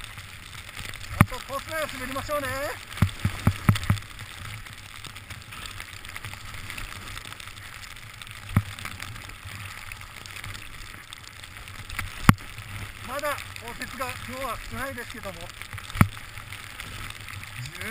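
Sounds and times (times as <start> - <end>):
skis sliding on snow: 0.0 - 17.9.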